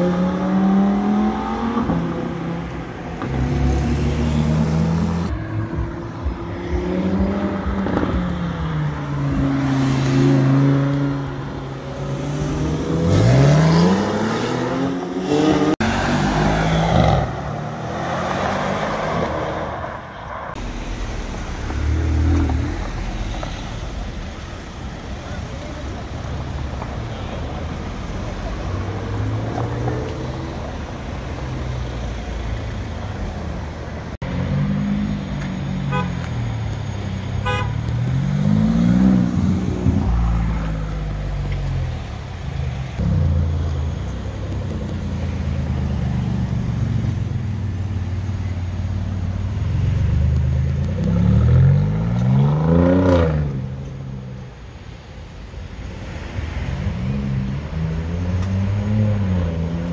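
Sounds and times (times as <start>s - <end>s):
sports car engines revving: 0.0s - 54.6s, 55.9s - 59.9s.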